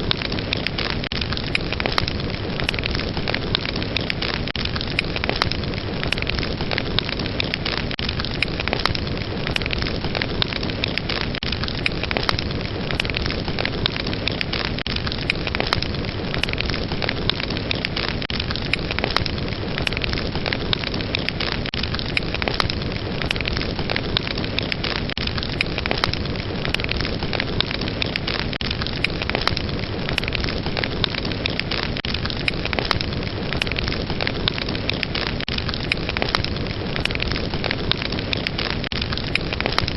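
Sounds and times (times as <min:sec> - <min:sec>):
fire crackling and hissing: 0:00.0 - 0:39.9.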